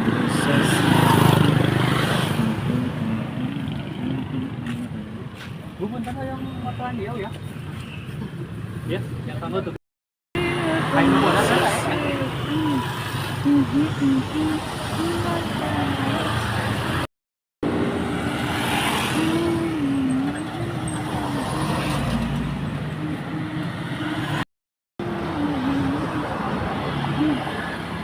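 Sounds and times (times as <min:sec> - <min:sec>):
busy street traffic: 0:00.0 - 0:28.0.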